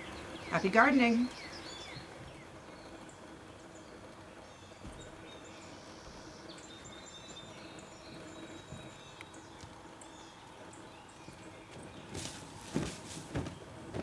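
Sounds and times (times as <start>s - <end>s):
birds chirping: 0.0s - 14.0s
low steady background hum: 0.0s - 14.0s.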